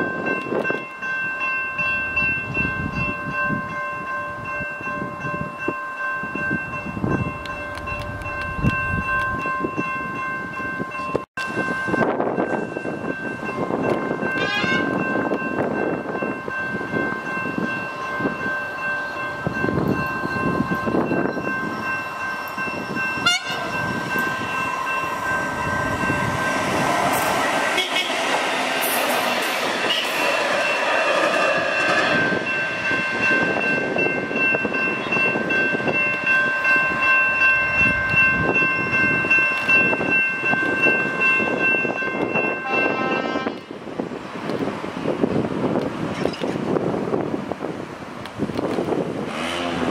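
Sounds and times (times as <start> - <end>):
wheels rumbling on rail: 0.0 - 49.9.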